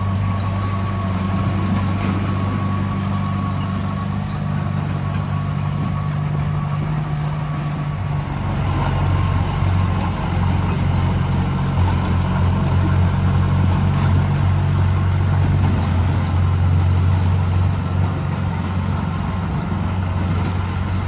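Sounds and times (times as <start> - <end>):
diesel machinery engine running: 0.0 - 21.0.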